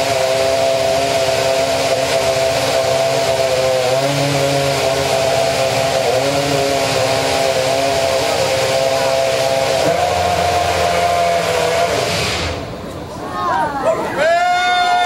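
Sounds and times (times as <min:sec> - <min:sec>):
racing car engine whining: 0:00.0 - 0:13.2.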